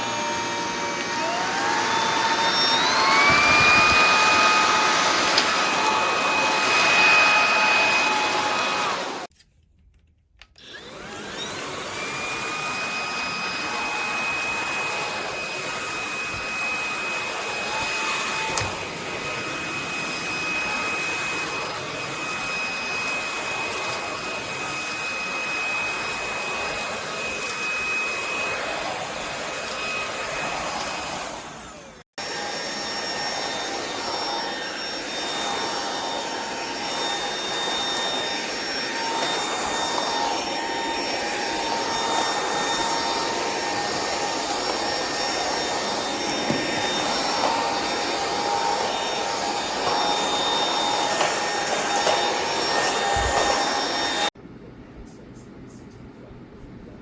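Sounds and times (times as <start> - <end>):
stick vacuum running: 0.0 - 9.3, 10.6 - 54.3.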